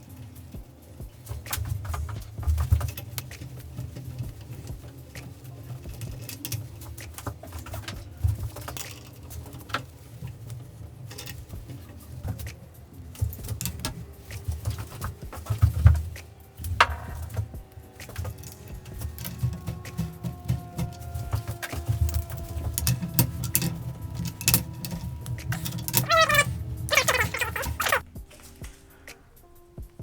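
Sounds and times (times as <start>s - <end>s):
metal bike parts clicking: 0.0s - 28.8s
low uneven rumble: 1.8s - 28.0s.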